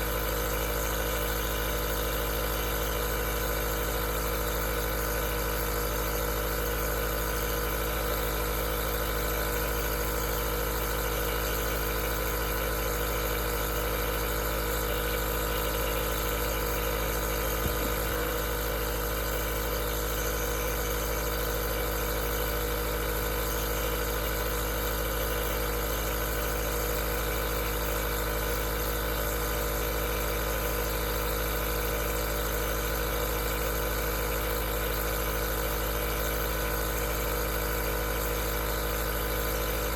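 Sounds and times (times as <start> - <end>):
nebulizer motor hum: 0.0 - 39.9.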